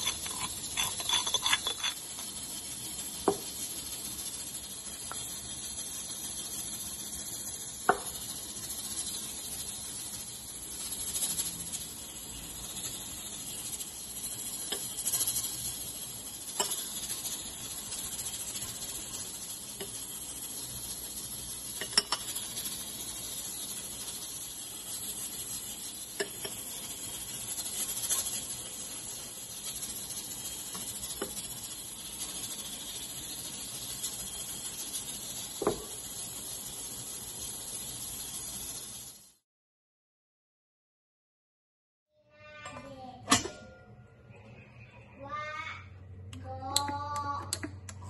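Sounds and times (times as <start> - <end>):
steady hiss: 0.0 - 39.4.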